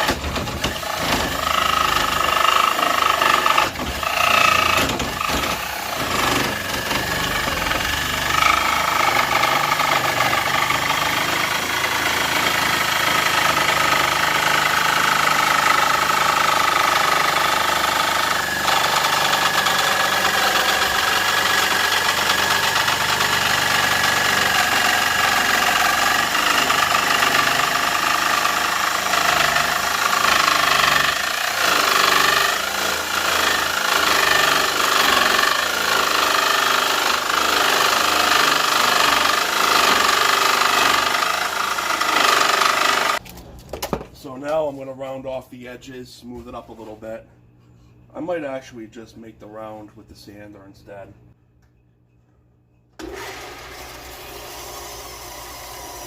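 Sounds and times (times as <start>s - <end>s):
electric jigsaw cutting wood: 0.0s - 43.2s, 53.0s - 56.0s.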